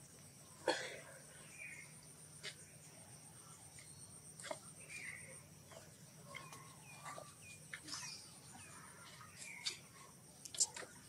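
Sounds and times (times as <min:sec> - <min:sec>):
small birds chirping: 0:01.3 - 0:11.0.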